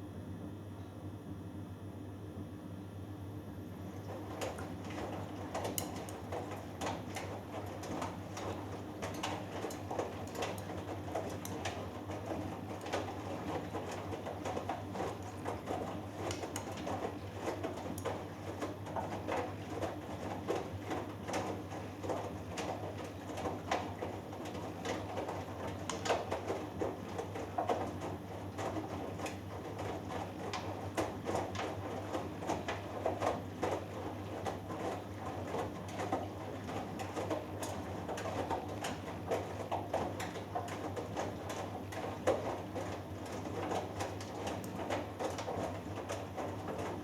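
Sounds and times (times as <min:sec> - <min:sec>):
washing machine motor hum: 0:00.0 - 0:47.0
clothes tumbling and splashing in drum: 0:03.9 - 0:47.0.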